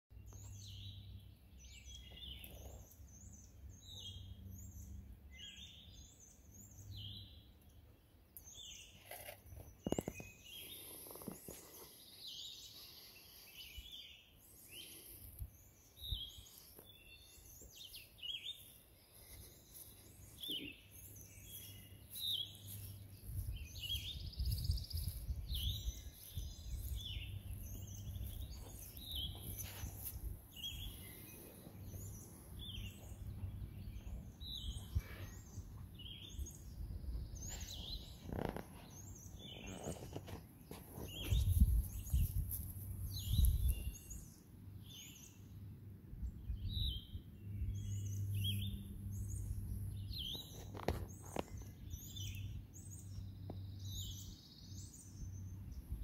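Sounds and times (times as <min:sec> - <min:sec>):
songbirds chirping: 0:00.1 - 0:56.0.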